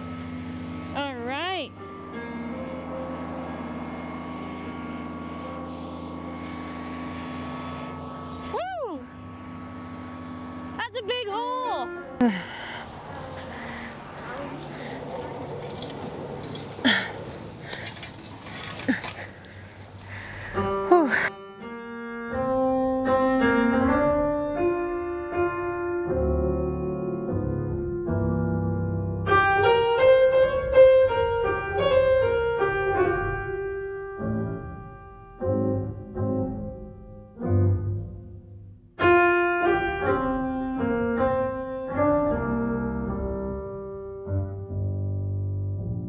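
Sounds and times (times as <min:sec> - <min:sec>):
piano music: 0:00.0 - 0:08.4, 0:09.2 - 0:14.6, 0:20.6 - 0:46.0.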